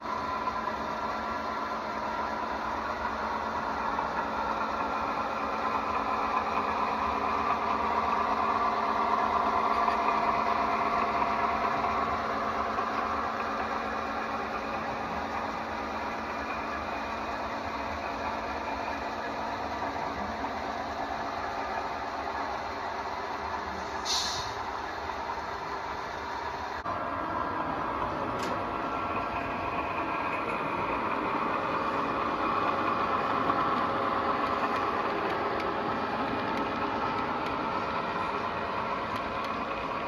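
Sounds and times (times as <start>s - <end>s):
model train hum and rattle: 0.0s - 40.0s.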